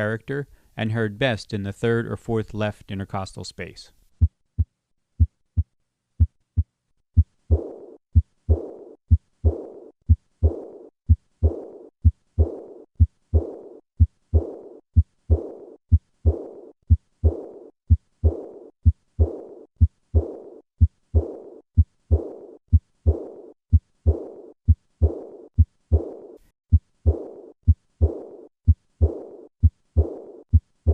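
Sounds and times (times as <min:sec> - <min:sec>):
heartbeat low thumps: 0:04.2 - 0:30.9
high-pitched heart murmur: 0:04.2 - 0:30.9.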